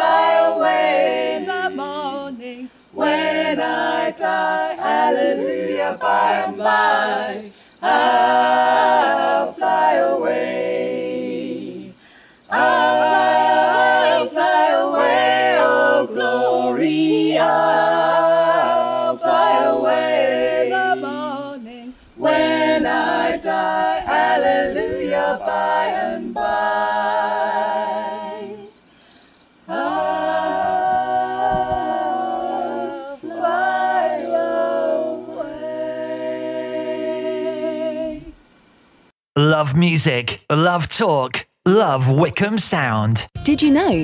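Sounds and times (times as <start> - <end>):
voices singing a hymn in harmony: 0.0 - 28.9, 29.6 - 38.6.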